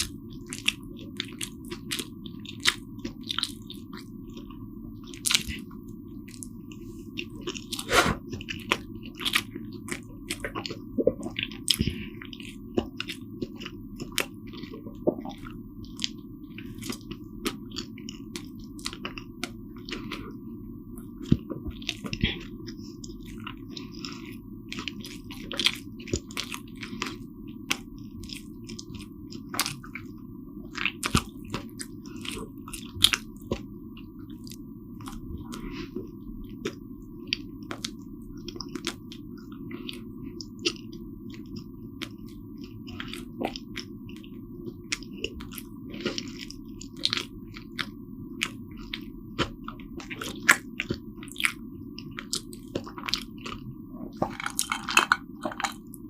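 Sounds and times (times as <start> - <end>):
close chewing mouth clicks: 0.0 - 20.3, 21.0 - 56.0
low background hum: 0.0 - 56.0.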